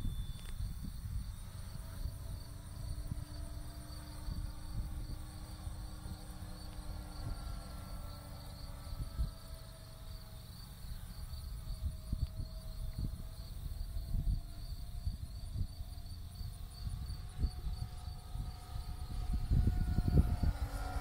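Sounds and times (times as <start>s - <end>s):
insect chirping: 0.0s - 20.9s
distant aircraft engine drone: 0.0s - 21.0s
wind rumble on microphone: 0.0s - 21.0s.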